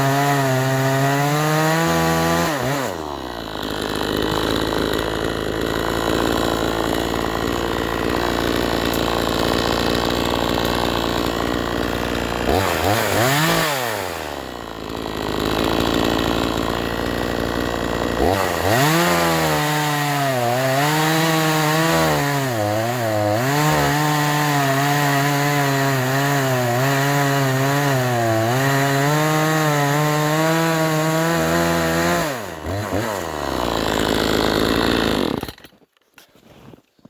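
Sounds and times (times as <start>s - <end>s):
chainsaw cutting wood: 0.0s - 36.8s.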